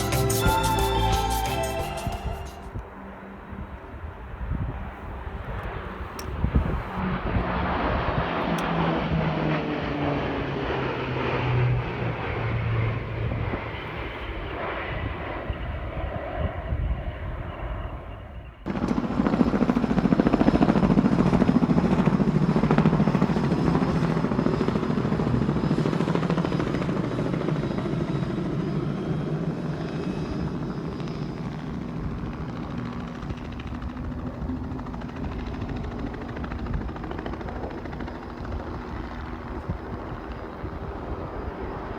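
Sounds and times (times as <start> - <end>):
aircraft engine noise: 0.0 - 41.9.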